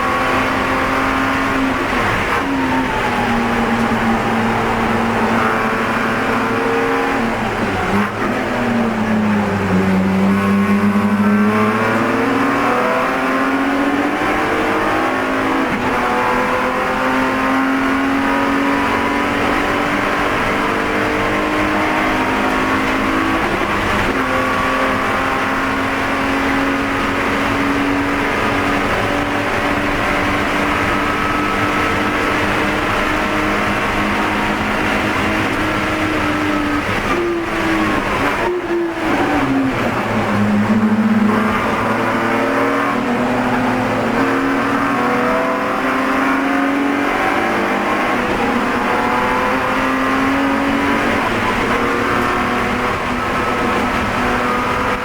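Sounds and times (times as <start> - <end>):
race car engine at high revs: 0.0 - 55.0
road and wind noise: 0.0 - 55.0.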